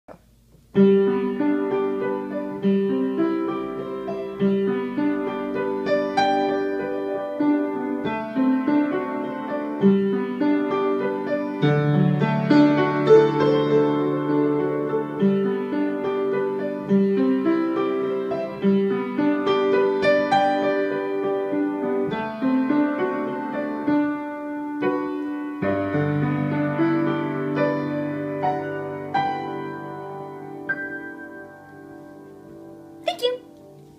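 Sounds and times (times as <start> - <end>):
piano playing slow chords: 0.7 - 33.9.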